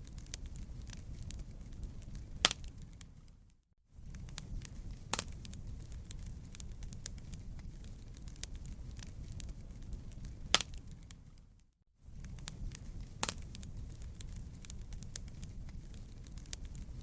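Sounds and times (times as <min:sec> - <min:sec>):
fire crackling and popping: 0:00.0 - 0:17.0
rumble of flames: 0:00.0 - 0:17.0.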